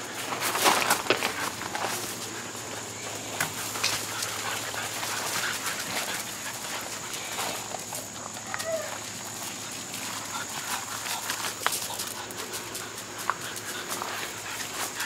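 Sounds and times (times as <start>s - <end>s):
paws scuffing on gravel: 0.0s - 15.0s
puppies making soft sounds: 1.2s - 15.0s.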